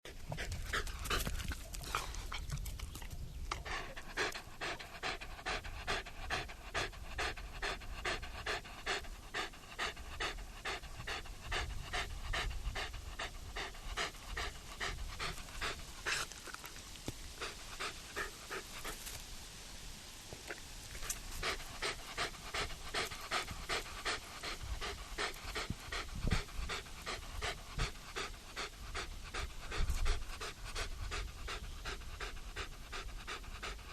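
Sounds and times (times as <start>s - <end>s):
puppy panting: 0.0s - 16.7s, 17.4s - 19.2s, 21.0s - 33.9s.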